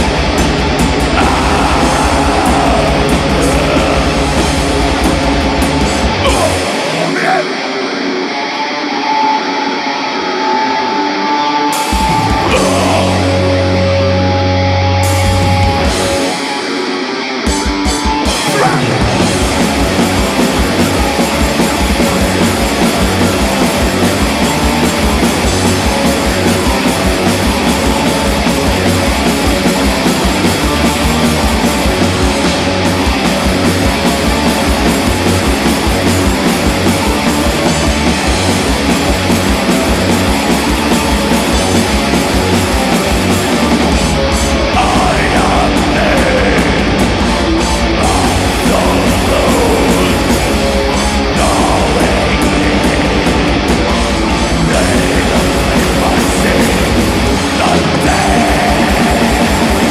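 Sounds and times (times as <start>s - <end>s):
rapid kick drum beats: 0.0s - 6.6s, 17.8s - 59.9s
metal band playing live: 0.0s - 59.9s.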